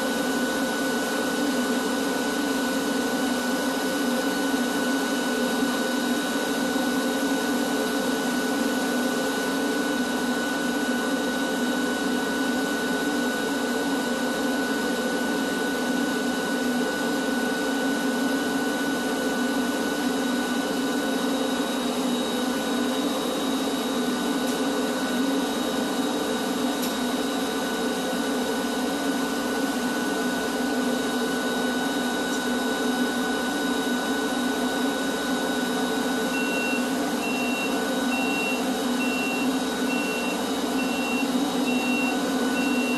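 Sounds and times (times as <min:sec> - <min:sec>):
shop vacuum running: 0:00.0 - 0:42.9.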